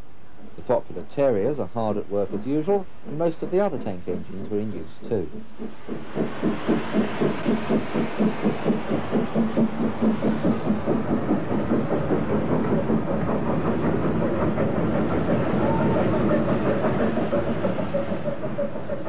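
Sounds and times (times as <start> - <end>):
steam locomotive chuffing: 0.4 - 19.0.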